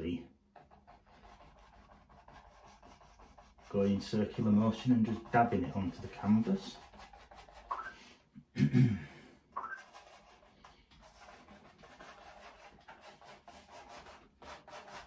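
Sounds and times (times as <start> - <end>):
brush scratching on canvas: 0.6 - 7.9, 9.8 - 15.0.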